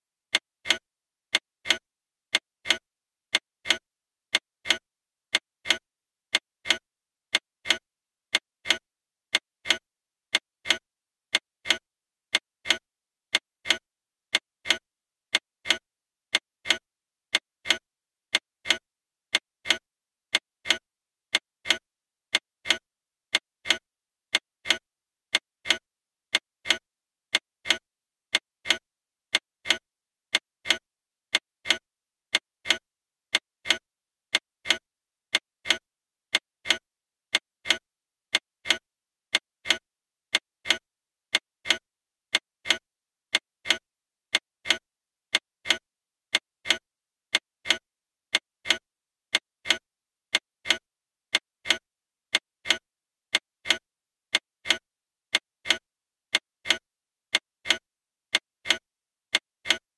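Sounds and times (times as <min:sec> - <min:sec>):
clock ticking: 0:00.3 - 0:59.9.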